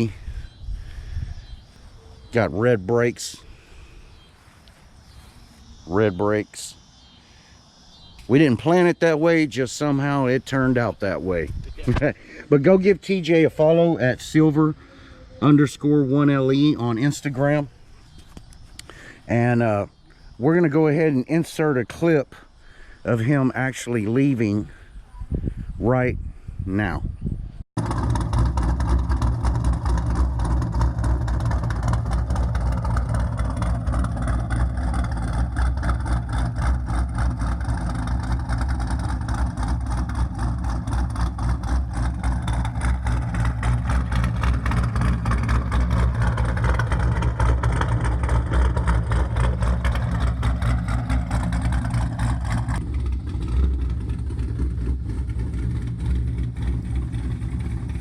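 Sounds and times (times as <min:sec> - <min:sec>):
car engine rumbling: 0:00.0 - 0:24.8, 0:27.8 - 0:58.0.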